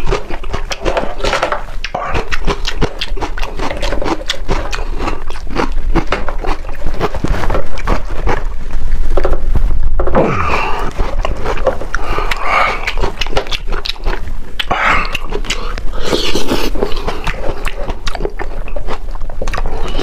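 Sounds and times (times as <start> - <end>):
wet smacking and chewing: 0.0 - 8.9, 10.6 - 20.0.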